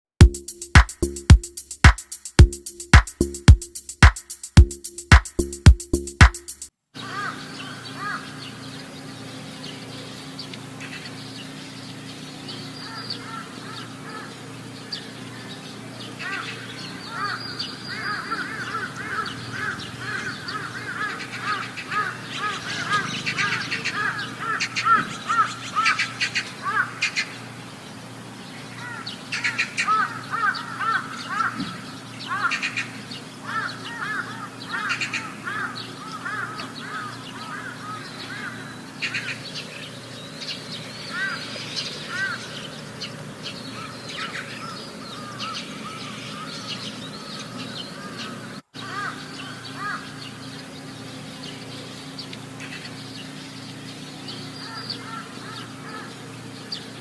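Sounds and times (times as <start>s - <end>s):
chorus of animal calls: 7.0s - 27.8s, 28.5s - 57.0s.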